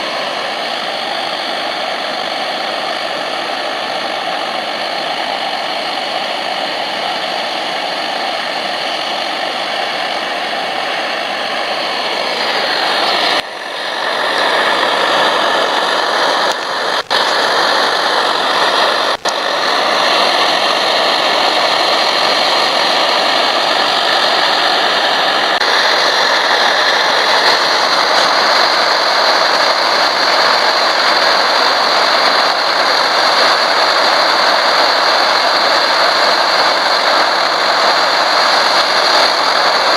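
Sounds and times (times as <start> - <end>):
camping stove roaring: 0.0 - 39.9.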